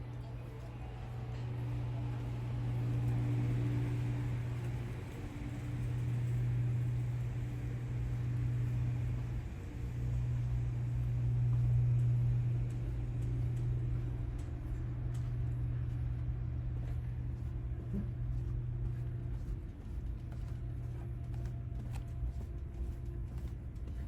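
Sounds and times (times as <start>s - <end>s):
ship machinery hum: 0.0s - 24.0s.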